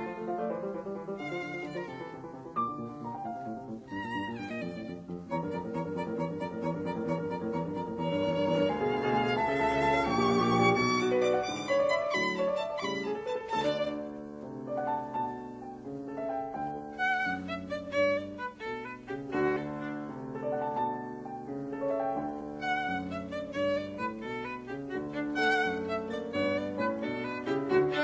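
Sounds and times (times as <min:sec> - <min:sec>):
violin melody with accompaniment: 0:00.0 - 0:28.0.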